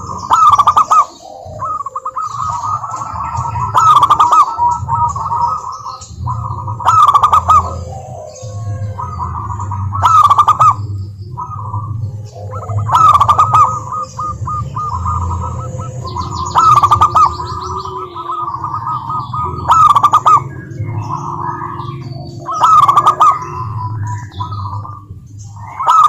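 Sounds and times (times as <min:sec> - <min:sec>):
doves cooing: 0:00.0 - 0:26.0
steady low hum: 0:00.0 - 0:26.0.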